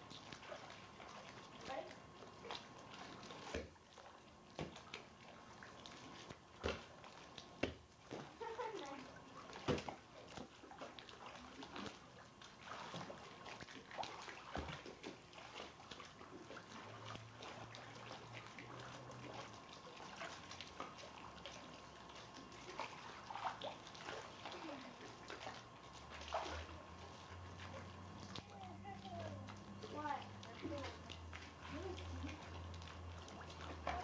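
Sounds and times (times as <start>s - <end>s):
pool water splashing: 0.0s - 34.0s.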